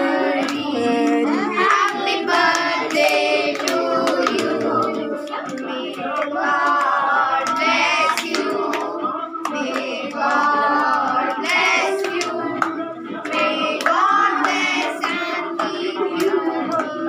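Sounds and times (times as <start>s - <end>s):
group singing: 0.0s - 17.0s
people clapping along: 0.0s - 17.0s.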